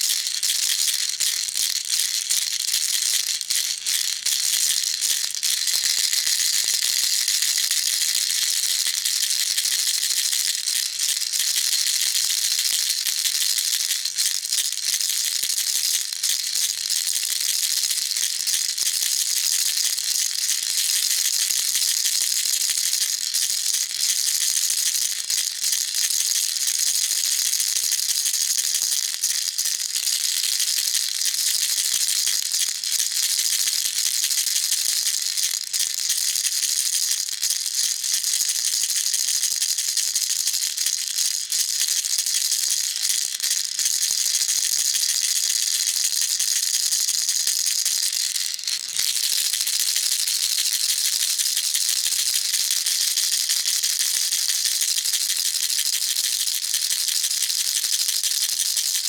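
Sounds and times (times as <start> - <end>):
baby rattle shaking: 0.0 - 59.0.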